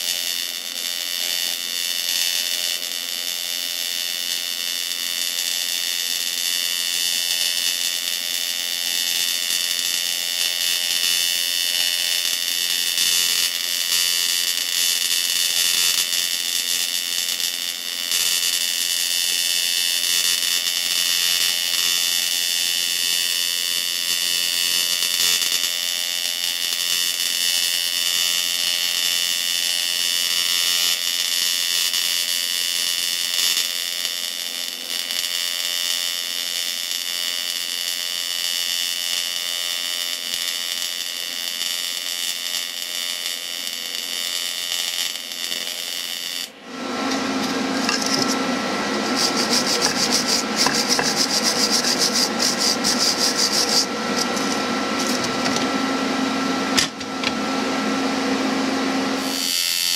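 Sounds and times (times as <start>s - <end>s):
welding arc buzzing: 0.0s - 59.9s.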